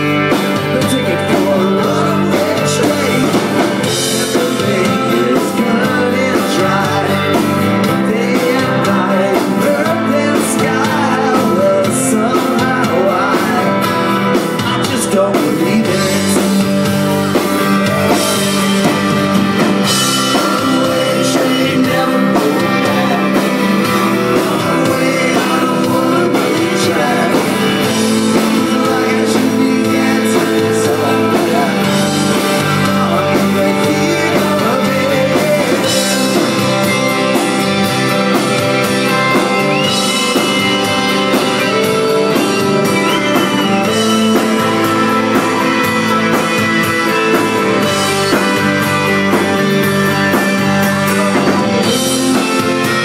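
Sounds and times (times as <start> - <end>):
man singing: 0.0 - 19.2, 19.8 - 53.0
rock band playing: 0.0 - 53.0.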